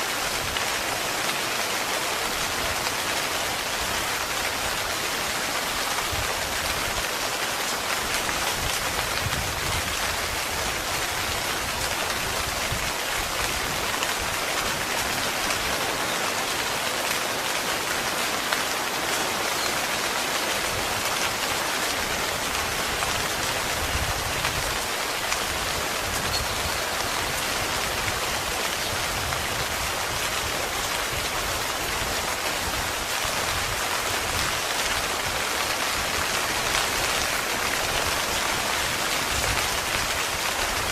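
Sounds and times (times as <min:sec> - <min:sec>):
heavy rain drumming on a tent: 0:00.0 - 0:40.9.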